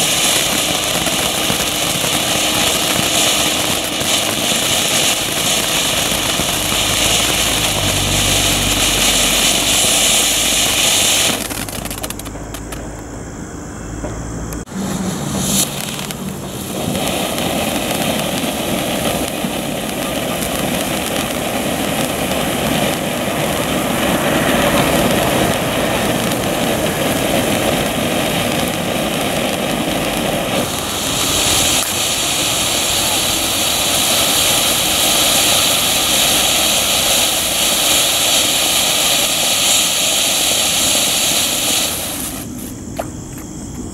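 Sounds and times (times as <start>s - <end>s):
firework spit: 0.0s - 13.2s, 14.5s - 43.7s
fountain firework hissing: 0.0s - 13.4s, 14.4s - 43.7s.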